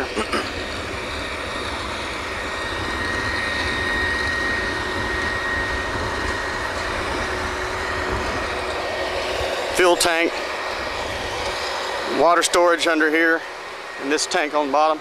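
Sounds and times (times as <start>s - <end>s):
drilling rig machinery drone: 0.0s - 15.0s
thin steady whine: 0.0s - 15.0s.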